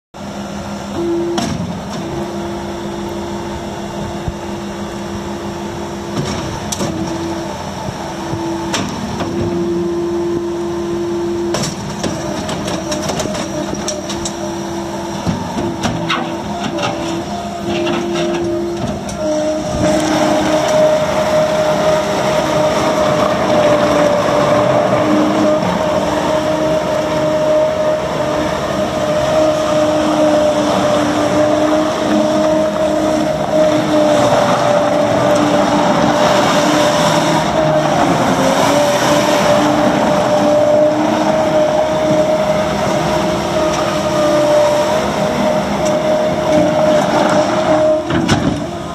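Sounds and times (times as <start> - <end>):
diesel engine running: 0.1 - 48.9
high steady whine: 0.2 - 48.9.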